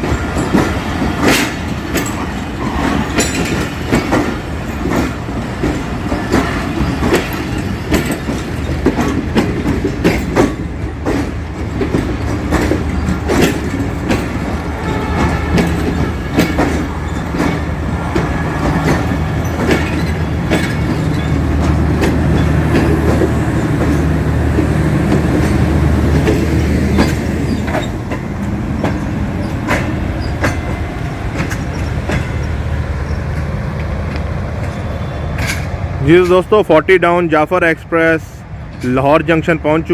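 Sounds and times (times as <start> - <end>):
low train hum: 0.0 - 39.9
train wheels clicking over rail joints: 0.0 - 39.9.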